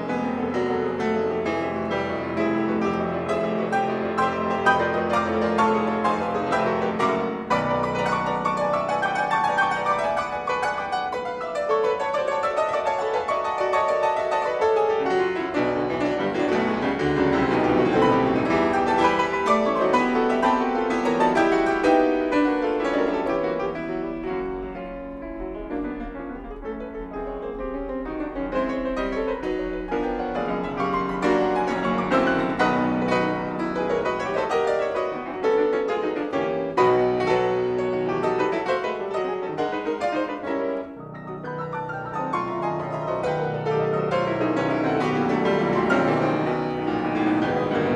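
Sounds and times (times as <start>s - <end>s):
two pianos playing a fugue: 0.0s - 47.9s.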